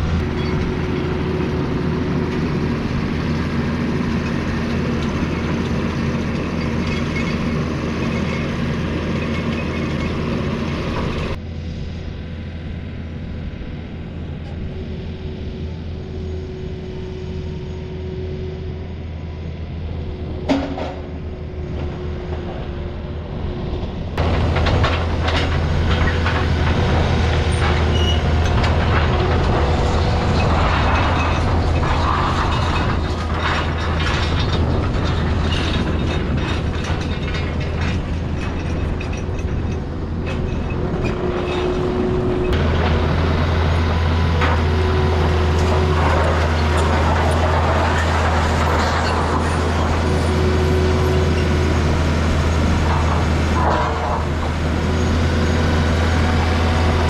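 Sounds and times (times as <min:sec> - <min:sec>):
steel tracks and rails clanking: 0:00.0 - 0:11.5, 0:14.4 - 0:57.0
diesel engine running: 0:00.0 - 0:57.0.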